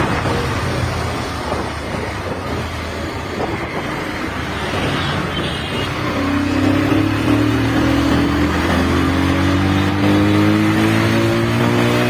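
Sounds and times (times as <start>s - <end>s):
road rush: 0.0s - 12.0s
wind: 0.0s - 12.0s.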